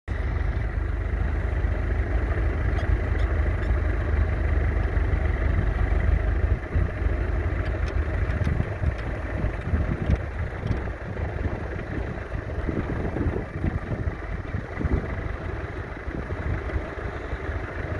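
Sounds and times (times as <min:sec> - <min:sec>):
tractor diesel engine running: 0:00.1 - 0:17.9.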